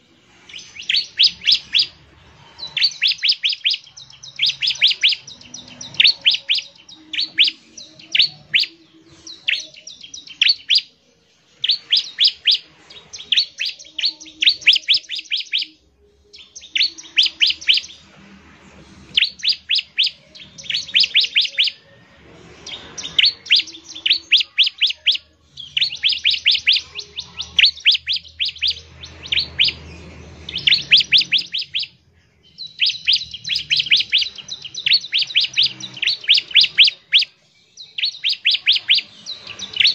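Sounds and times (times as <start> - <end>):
bird singing sharp high chirps: 0.4 - 18.2, 19.1 - 39.9.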